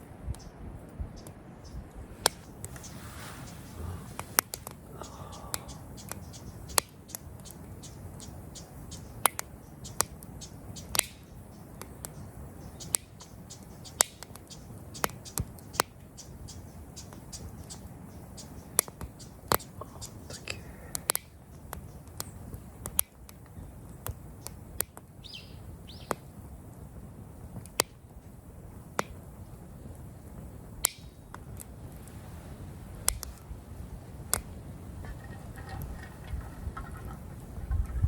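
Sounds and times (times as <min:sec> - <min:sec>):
campfire wood crackling: 0:00.0 - 0:38.0.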